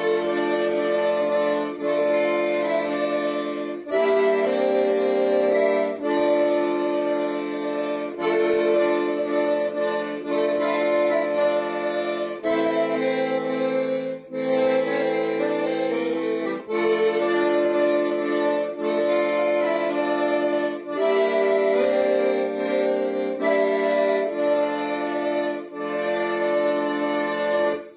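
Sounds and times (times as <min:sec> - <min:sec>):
piano accordion playing: 0:00.0 - 0:27.9.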